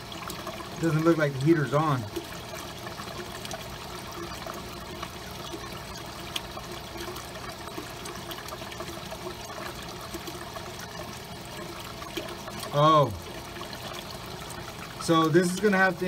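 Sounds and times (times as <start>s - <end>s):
water trickling and flowing: 0.0s - 16.0s.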